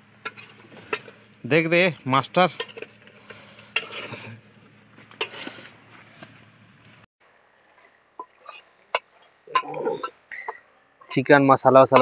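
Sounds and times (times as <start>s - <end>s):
simmering curry popping: 0.0s - 11.3s.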